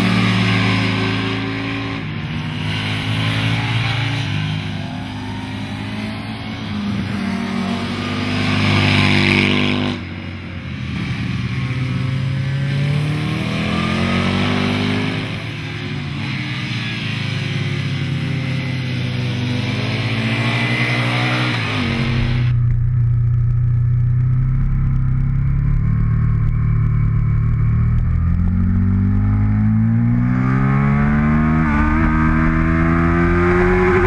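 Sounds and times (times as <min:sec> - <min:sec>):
motorcycle engine racing: 0:00.0 - 0:34.0.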